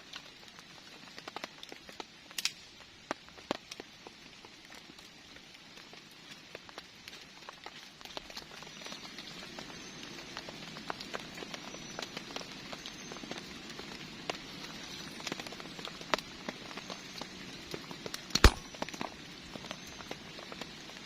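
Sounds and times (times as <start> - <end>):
heavy rain falling: 0.0 - 21.0
raindrops tapping: 0.0 - 21.0.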